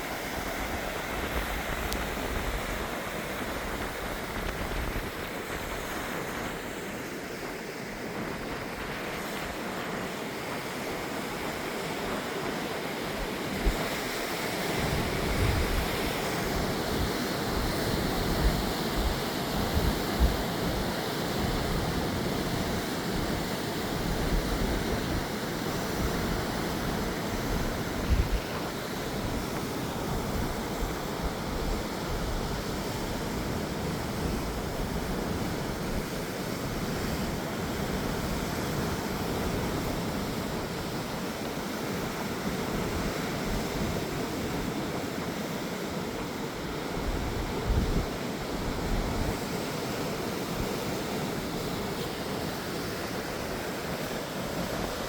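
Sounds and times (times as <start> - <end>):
wind buffeting microphone: 0.0 - 45.4, 46.1 - 49.6
small waves breaking on beach: 0.0 - 55.0.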